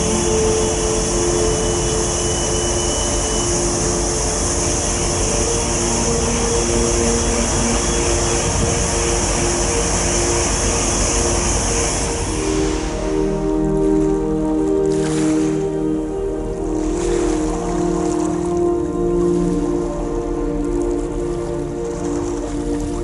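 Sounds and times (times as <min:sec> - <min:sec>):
rushing boat wake: 0:00.0 - 0:23.0
ship engine rumble: 0:00.0 - 0:23.0
soft background music: 0:00.0 - 0:23.0.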